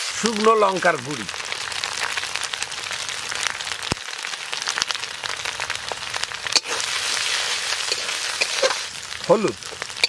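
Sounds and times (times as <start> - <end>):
spice paste sizzling in oil: 0.0 - 10.0.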